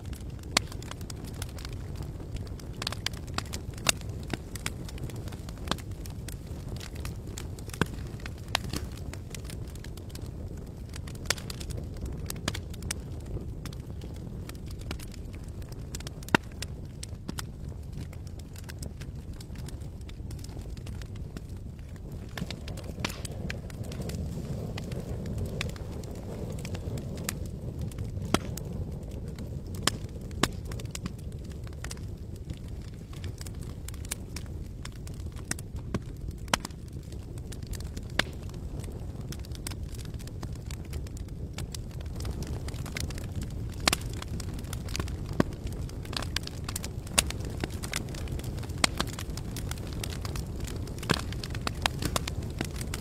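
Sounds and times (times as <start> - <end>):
campfire crackling: 0.0 - 53.0
low fire rumble: 0.0 - 53.0.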